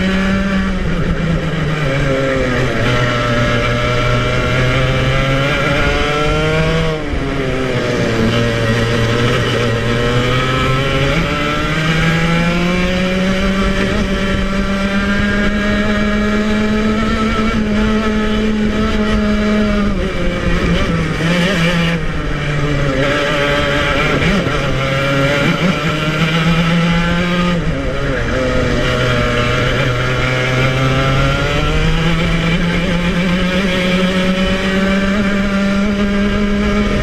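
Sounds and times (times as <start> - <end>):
two-stroke kart engine running: 0.0 - 37.0.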